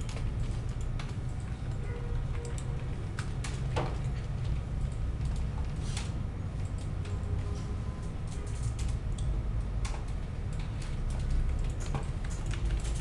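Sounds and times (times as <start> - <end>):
computer keyboard clicks: 0.0 - 7.3, 8.0 - 13.0.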